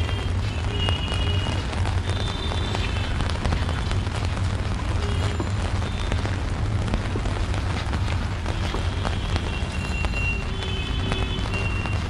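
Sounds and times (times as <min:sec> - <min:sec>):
rain falling on a street: 0:00.0 - 0:12.0.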